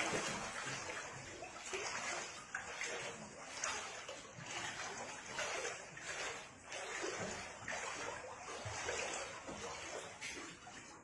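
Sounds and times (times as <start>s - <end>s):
floodwater splashing and sloshing: 0.0s - 11.0s.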